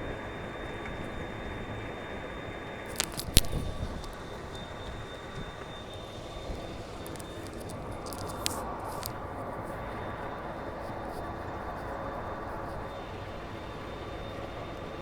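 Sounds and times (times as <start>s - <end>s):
road and traffic noise: 0.0s - 15.0s.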